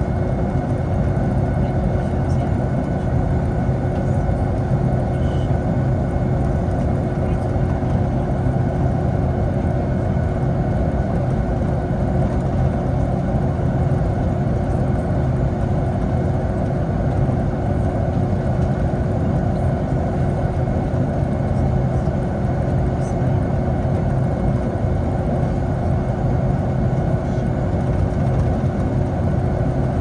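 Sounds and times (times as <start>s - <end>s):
jet cabin engine drone: 0.0s - 30.0s.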